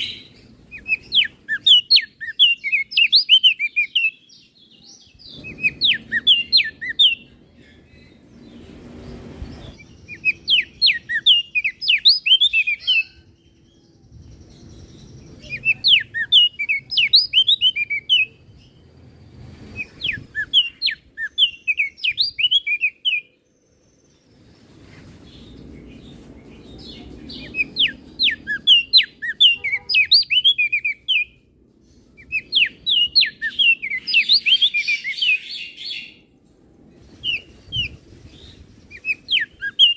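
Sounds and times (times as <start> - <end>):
bird singing whistled notes: 0.0 - 8.7, 9.4 - 24.5, 26.5 - 31.5, 32.2 - 36.2, 37.1 - 39.9.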